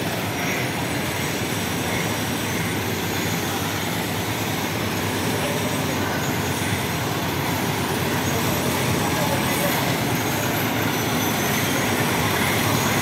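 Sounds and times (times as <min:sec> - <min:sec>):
constant rushing noise: 0:00.0 - 0:13.0
low engine-like hum: 0:00.0 - 0:13.0.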